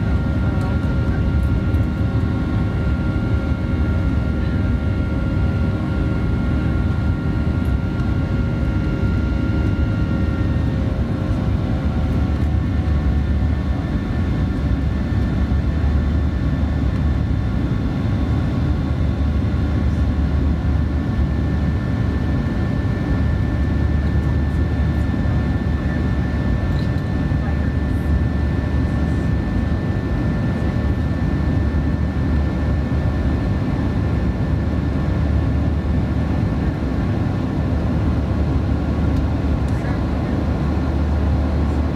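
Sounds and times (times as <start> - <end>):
jet engine and airflow rumble: 0.0 - 41.9.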